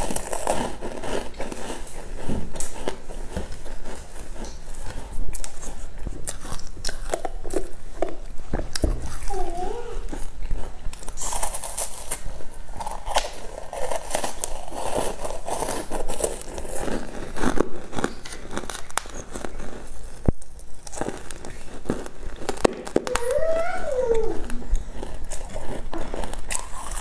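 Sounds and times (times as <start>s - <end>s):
chewing: 0.0s - 27.0s
pastry crackling and tearing: 0.0s - 27.0s.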